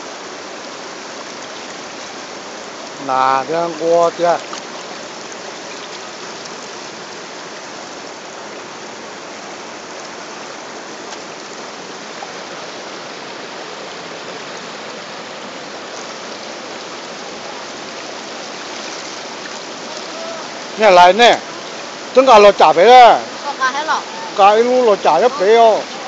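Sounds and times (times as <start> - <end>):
stream running over rocks: 0.0 - 26.0.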